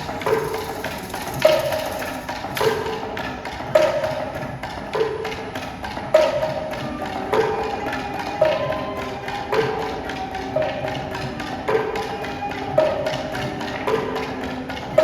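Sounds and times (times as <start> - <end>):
loud pitched percussion strokes: 0.0 - 15.0.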